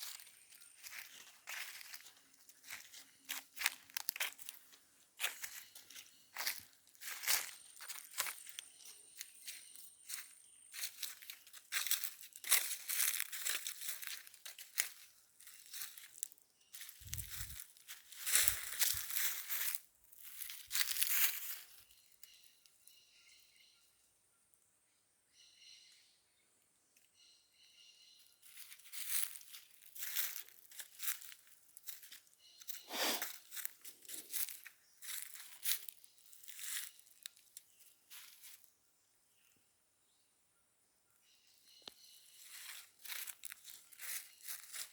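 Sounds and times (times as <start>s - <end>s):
footsteps crunching dry leaves: 0.0s - 22.4s, 28.4s - 38.7s, 41.7s - 44.9s.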